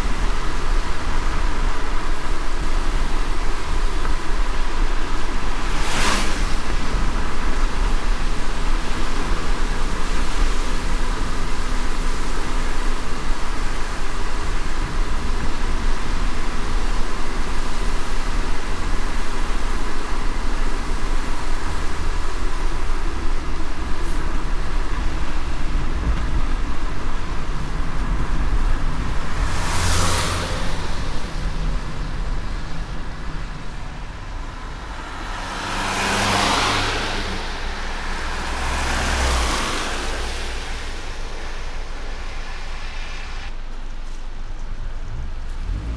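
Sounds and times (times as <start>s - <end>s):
car tyres on wet road: 0.0s - 45.9s
passing vehicle whooshes: 0.0s - 45.9s.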